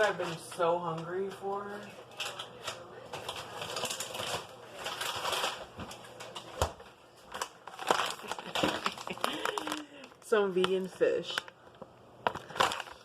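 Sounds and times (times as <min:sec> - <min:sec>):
food packaging rustling: 0:00.0 - 0:13.0.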